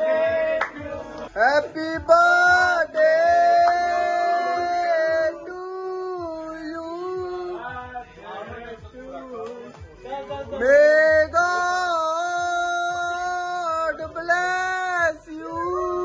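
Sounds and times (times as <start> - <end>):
man singing long held notes: 0.0 - 7.6, 10.6 - 16.0.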